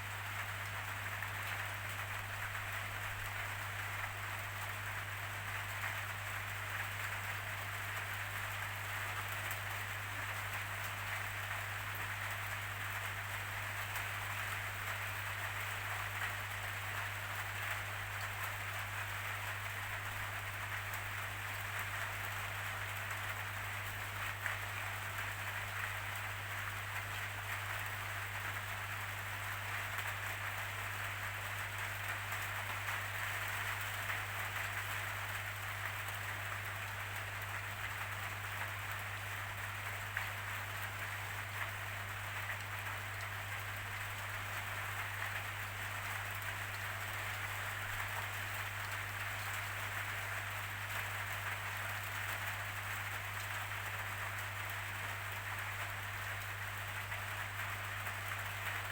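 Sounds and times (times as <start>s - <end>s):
rain drops pattering: 0.0s - 58.9s.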